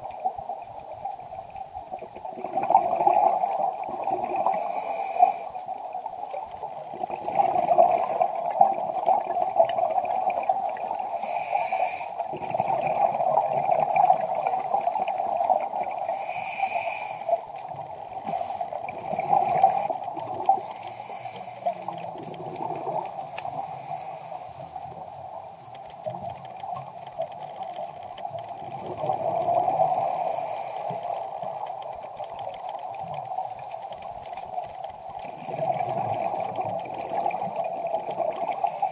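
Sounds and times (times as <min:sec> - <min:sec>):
underwater gurgling rush: 0:00.0 - 0:38.9.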